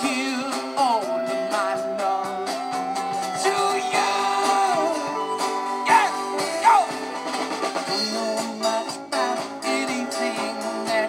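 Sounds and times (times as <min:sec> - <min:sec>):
live band music: 0:00.5 - 0:11.0.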